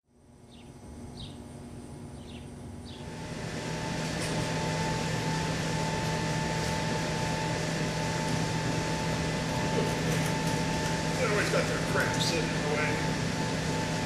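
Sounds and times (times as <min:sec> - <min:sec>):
mechanical room hum: 0:00.0 - 0:14.0.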